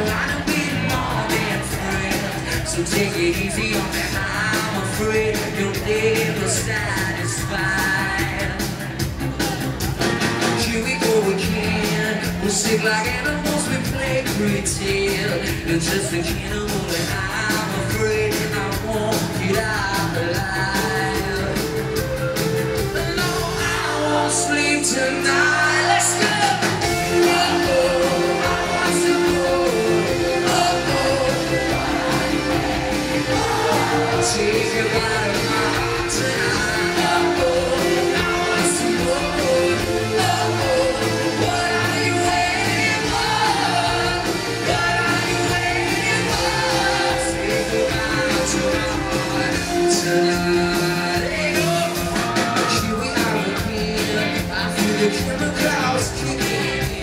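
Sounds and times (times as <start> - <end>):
live rock band with vocals: 0.0 - 57.0.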